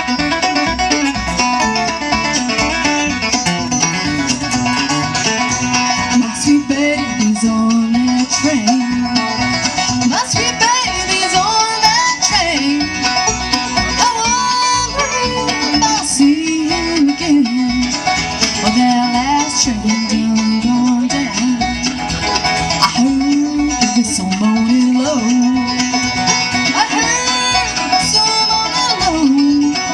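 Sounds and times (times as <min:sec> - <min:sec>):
bluegrass band playing: 0:00.0 - 0:29.9.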